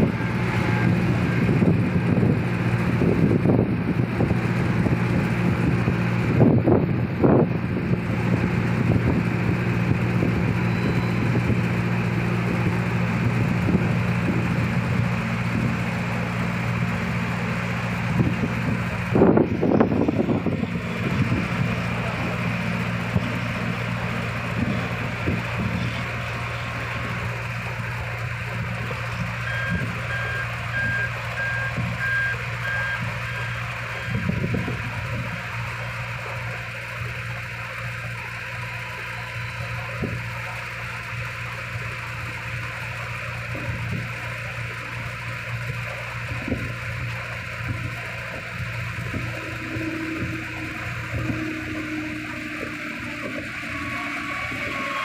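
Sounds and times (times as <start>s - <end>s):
truck reversing alarm beeping: 0.0s - 6.4s, 7.8s - 55.0s
large engine running steadily: 0.0s - 55.0s.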